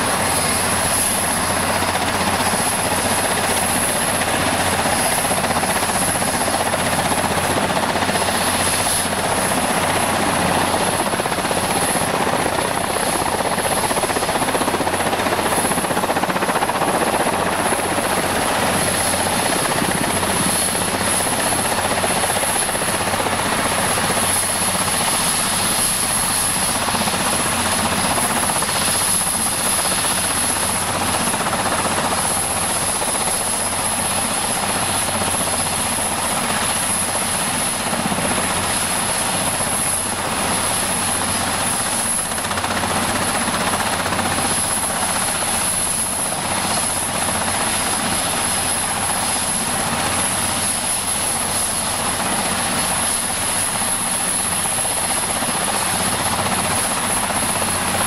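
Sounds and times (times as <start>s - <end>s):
helicopter turbine and rotor noise: 0.0s - 58.0s.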